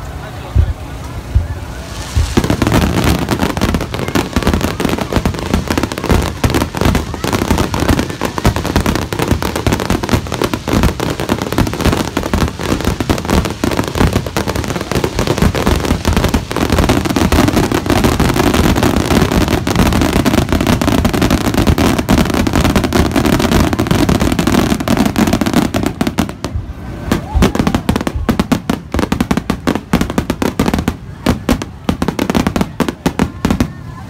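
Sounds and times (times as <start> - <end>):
firework bursts: 0.0 - 34.0
fireworks crackling: 0.0 - 34.0.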